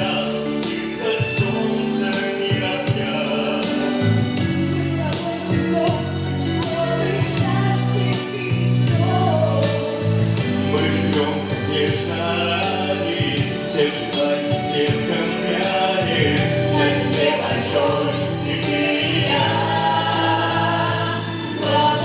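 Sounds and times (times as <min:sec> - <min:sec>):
instrumental accompaniment with beat: 0:00.0 - 0:22.0
vocal ensemble singing: 0:00.0 - 0:22.0.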